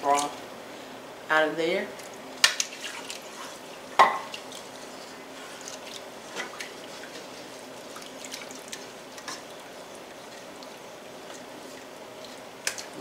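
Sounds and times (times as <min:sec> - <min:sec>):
liquid sloshing and dripping: 0:02.0 - 0:13.0.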